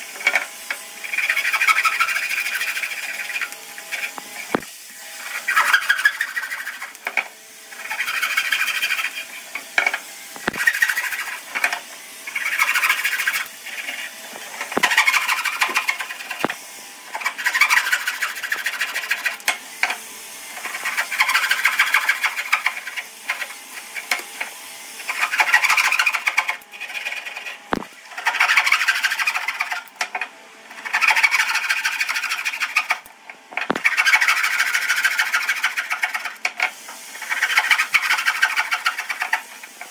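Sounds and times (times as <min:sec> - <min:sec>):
tool scraping wood: 0:00.0 - 0:39.9.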